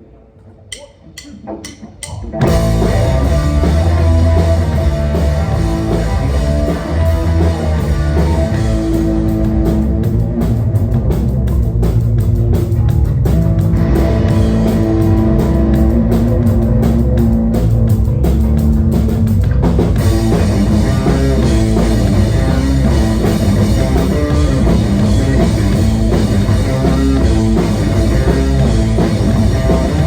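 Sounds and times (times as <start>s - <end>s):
bass guitar: 0.6s - 30.0s
drum kit: 0.6s - 30.0s
electric guitars: 1.4s - 30.0s.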